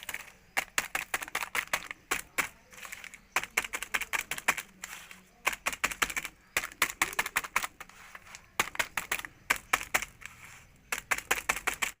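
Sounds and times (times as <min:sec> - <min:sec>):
rapid sharp clicks: 0:00.0 - 0:12.0.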